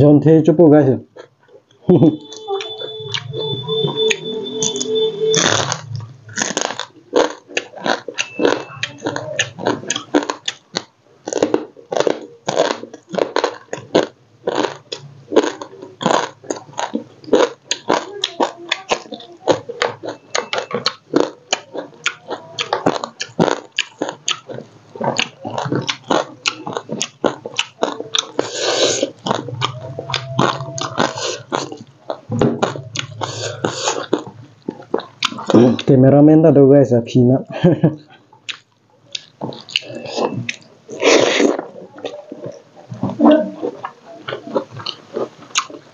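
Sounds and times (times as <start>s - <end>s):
chewing and crunching: 1.1s - 36.0s, 37.6s - 45.9s.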